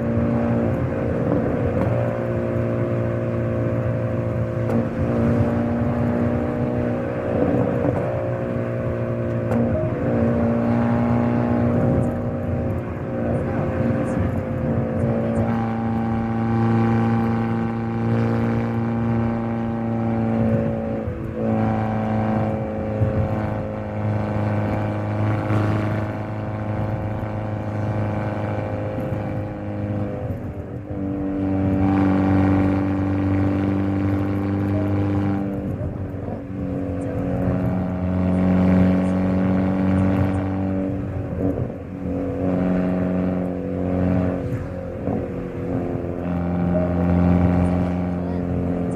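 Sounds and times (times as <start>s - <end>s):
car engine and exhaust: 0.0s - 48.9s.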